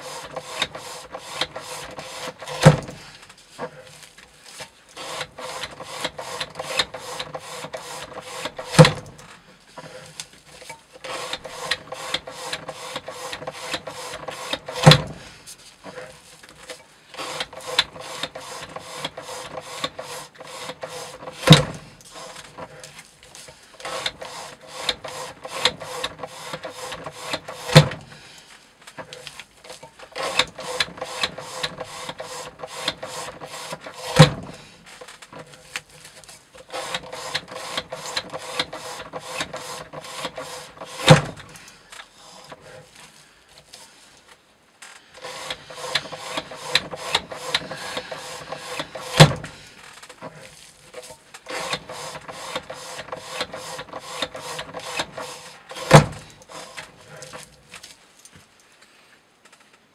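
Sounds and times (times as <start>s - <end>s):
knife sawing through rope: 0.0s - 44.2s, 45.0s - 58.0s.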